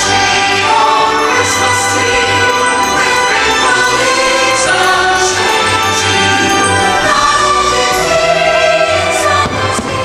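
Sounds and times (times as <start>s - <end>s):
choir singing: 0.0s - 10.0s
orchestral music: 0.0s - 10.0s.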